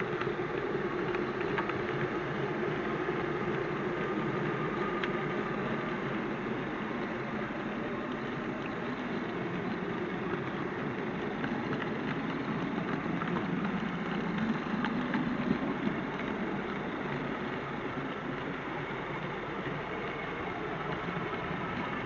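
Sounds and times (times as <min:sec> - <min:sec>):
model train wheels and motor rumble: 0:00.0 - 0:22.0.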